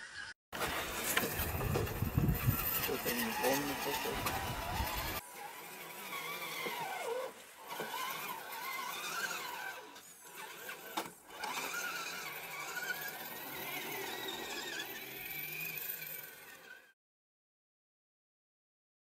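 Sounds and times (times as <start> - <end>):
rc truck motor whining: 0.0 - 17.0.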